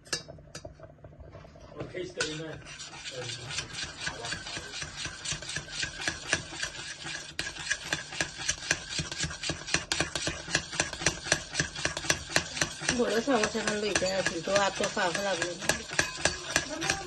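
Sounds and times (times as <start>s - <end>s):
metal spoon scraping a saucepan: 1.7s - 17.0s.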